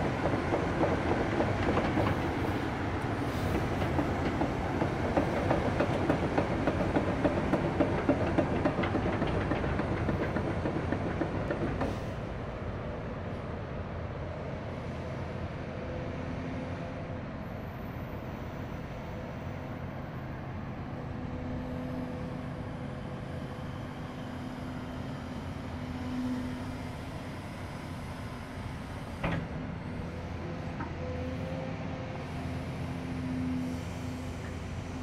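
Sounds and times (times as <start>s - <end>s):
excavator engine and hydraulics: 0.0s - 35.0s.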